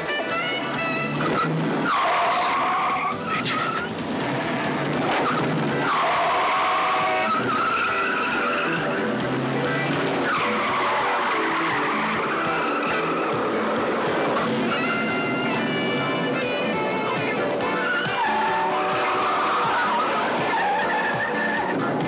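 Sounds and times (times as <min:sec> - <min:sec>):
car engines running: 0:00.0 - 0:22.0
car tyres squealing: 0:00.0 - 0:22.0.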